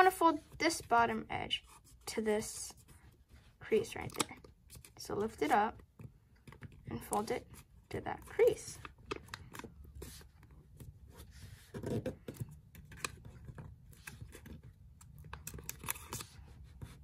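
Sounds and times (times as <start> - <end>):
paper folding and rustling: 2.8 - 17.0.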